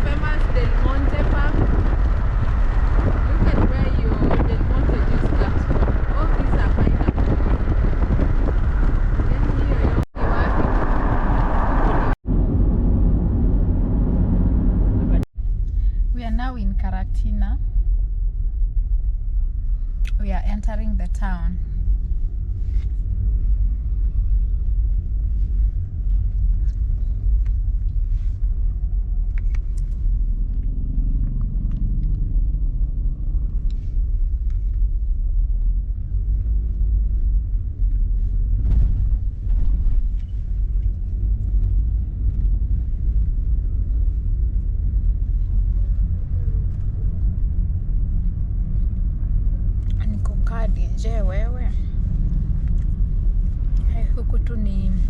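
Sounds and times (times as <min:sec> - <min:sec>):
car road noise and engine drone: 0:00.0 - 0:55.0.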